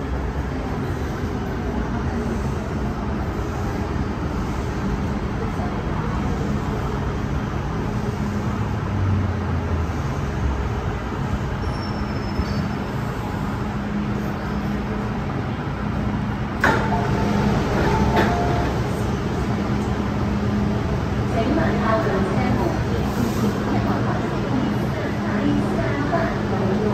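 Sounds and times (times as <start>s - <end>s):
train running noise: 0.0s - 26.9s.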